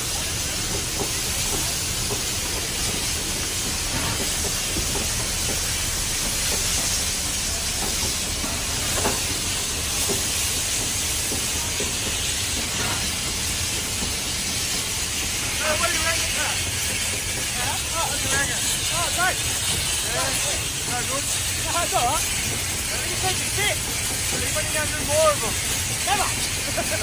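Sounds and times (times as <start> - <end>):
steam locomotive hiss and rumble: 0.0 - 27.0.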